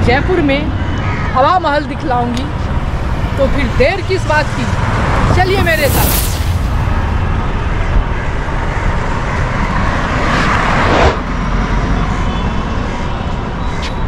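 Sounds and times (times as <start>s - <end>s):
vehicle passing: 0.0s - 13.4s
rumble of traffic engines and tyres: 0.0s - 14.0s.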